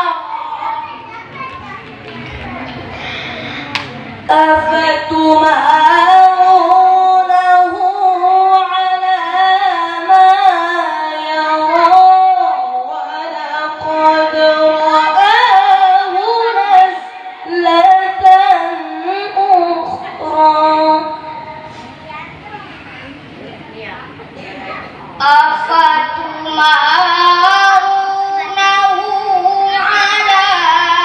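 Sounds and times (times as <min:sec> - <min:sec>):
boy reciting melodically: 0:00.0 - 0:23.2, 0:24.4 - 0:31.0.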